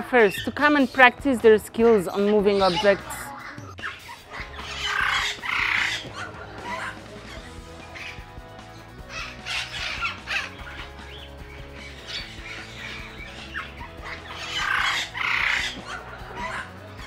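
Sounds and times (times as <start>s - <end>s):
background music: 0.0s - 17.0s
parrots squawking: 0.0s - 17.0s.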